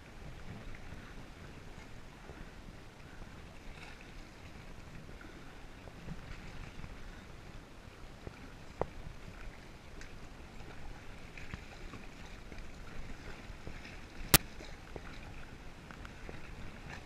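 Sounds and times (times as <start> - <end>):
water lapping against hull: 0.0 - 17.0
paddle blades dipping and dripping: 0.3 - 17.0.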